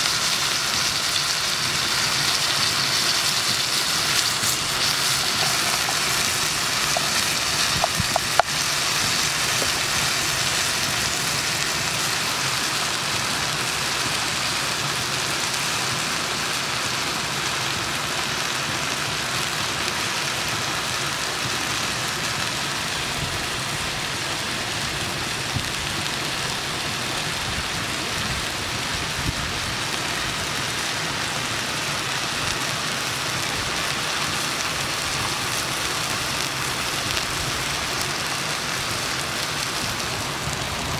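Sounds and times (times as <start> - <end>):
meat sizzling in hot fat: 0.0 - 40.9.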